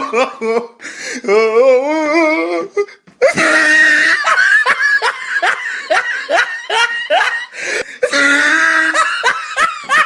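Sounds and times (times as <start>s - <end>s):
person laughing hard: 0.0s - 0.8s, 2.7s - 10.0s.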